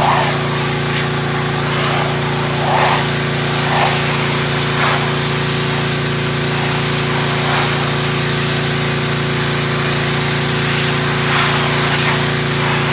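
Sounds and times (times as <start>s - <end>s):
pressure washer motor hum: 0.0s - 12.9s
water jet hissing on wood: 0.0s - 12.9s.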